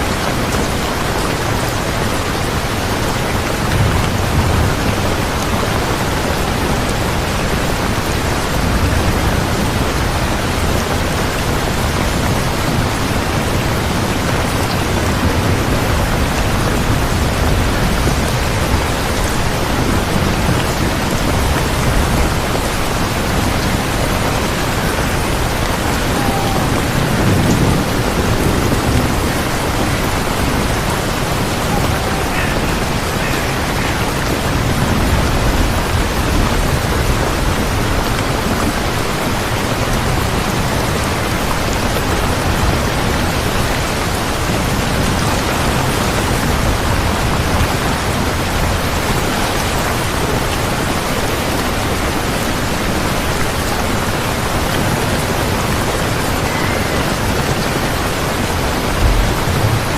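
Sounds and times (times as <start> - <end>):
heavy rain: 0.0 - 59.9
thunder rumbling: 0.0 - 59.9.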